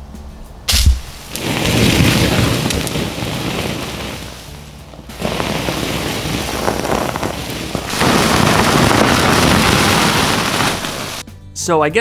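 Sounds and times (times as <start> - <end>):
burning metal hissing and sizzling: 0.7 - 11.2
crackling pops: 0.7 - 11.2.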